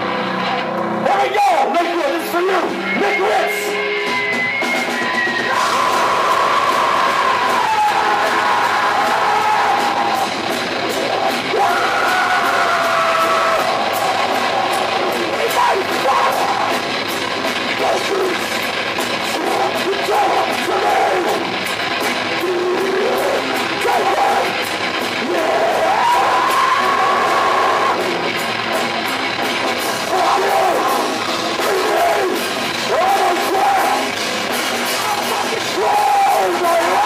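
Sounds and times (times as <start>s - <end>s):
bass guitar: 0.0s - 37.0s
distorted electric guitar: 0.0s - 37.0s
driving drum beat: 0.0s - 37.0s.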